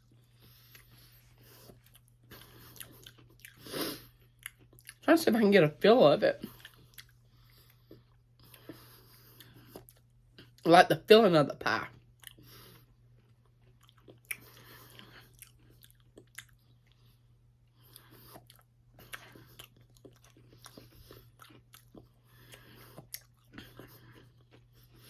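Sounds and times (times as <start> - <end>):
person chewing and crunching: 0.0 - 5.0, 6.4 - 10.6, 11.9 - 25.0.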